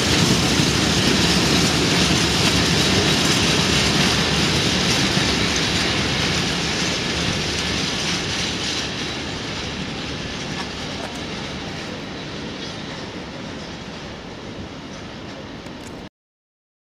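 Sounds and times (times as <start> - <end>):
train wheels rushing on rails: 0.0 - 16.1.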